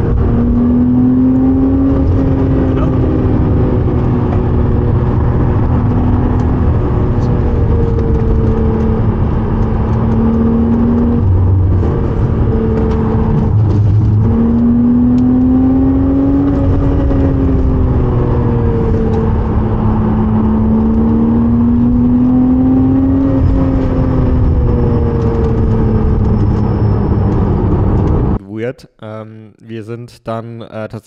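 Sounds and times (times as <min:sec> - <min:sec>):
car engine at high revs: 0:00.0 - 0:28.4.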